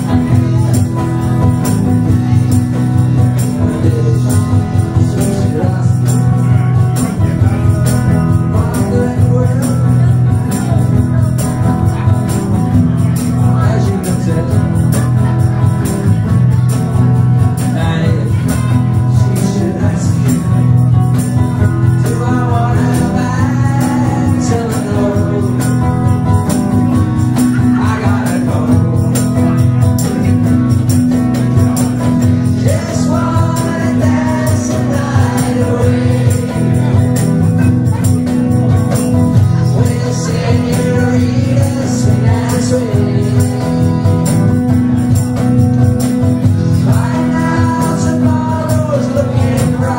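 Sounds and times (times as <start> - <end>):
electric guitar: 0.0 - 49.9
light percussion: 0.0 - 49.9
person singing: 0.0 - 49.9
steady low bass notes: 0.0 - 49.9.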